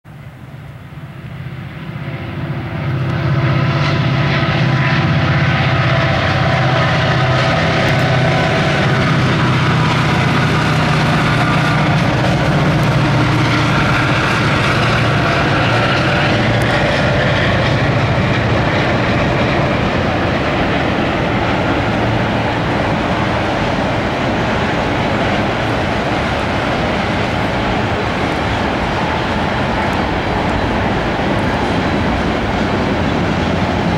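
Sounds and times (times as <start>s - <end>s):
diesel locomotive engines droning: 0.1s - 33.9s
freight cars rail noise: 0.1s - 33.9s.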